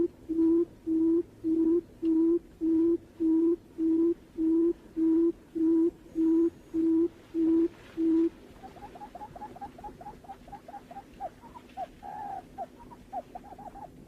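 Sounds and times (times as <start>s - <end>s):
bird hooting: 0.0s - 14.0s.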